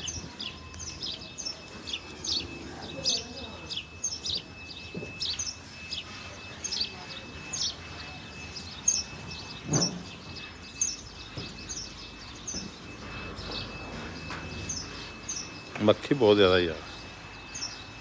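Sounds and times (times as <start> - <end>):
faint high whine: 0.0 - 18.0
small birds chirping: 0.0 - 18.0.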